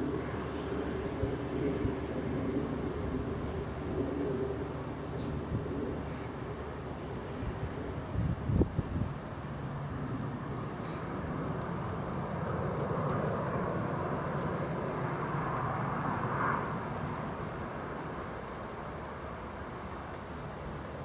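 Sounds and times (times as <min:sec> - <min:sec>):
jet engine rumble and hiss: 0:00.0 - 0:21.0.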